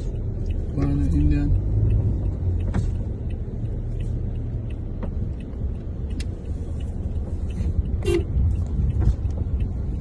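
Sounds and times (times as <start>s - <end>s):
car driving rumble: 0.0s - 10.0s
sharp clicks: 0.1s - 10.0s.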